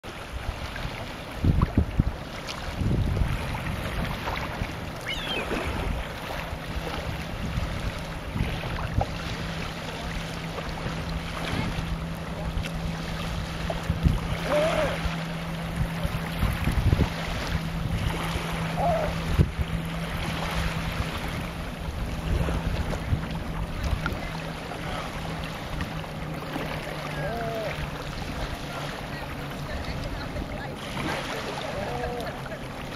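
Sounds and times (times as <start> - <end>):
gentle surf: 0.0 - 32.9
wind buffeting microphone: 0.2 - 32.4.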